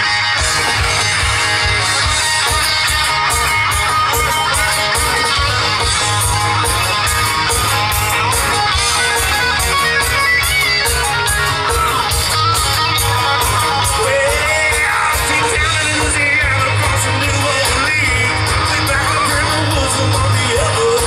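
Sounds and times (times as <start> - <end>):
bass guitar: 0.0 - 21.0
electric guitar lead: 0.0 - 21.0.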